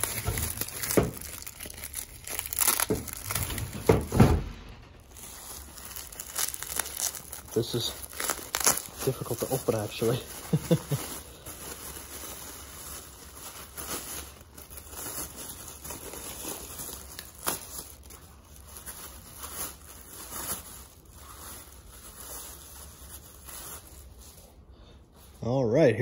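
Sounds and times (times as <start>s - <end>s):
plastic bag crinkling and tearing: 0.0s - 25.4s.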